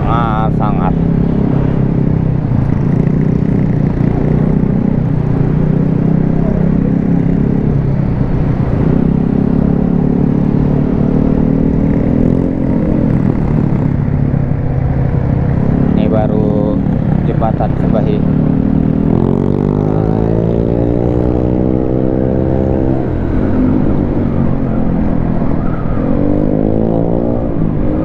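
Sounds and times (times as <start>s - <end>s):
motorcycle engine cruising: 0.0s - 28.0s
road and wind noise: 0.0s - 28.0s.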